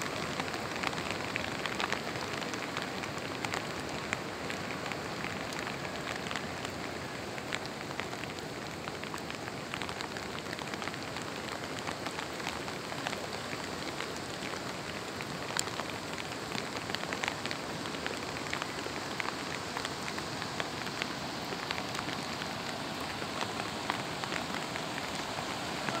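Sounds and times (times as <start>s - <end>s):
raindrops ticking near microphone: 0.0s - 26.0s
steady rain: 0.0s - 26.0s.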